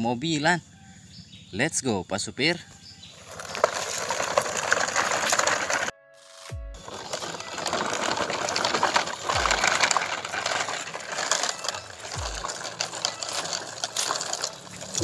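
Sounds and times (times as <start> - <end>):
toy trucks rattling over paving: 3.0 - 15.0.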